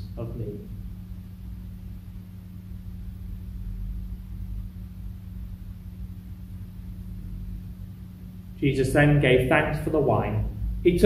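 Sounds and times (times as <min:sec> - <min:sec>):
fluctuating low rumble: 0:00.0 - 0:11.0
low room hum: 0:00.0 - 0:11.0.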